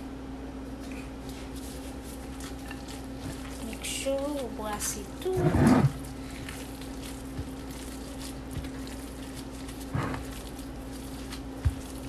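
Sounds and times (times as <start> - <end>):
steady low hum: 0.0 - 12.0
hands squishing ground meat: 0.8 - 5.0, 6.0 - 12.0
plastic glove rustling: 1.3 - 12.0.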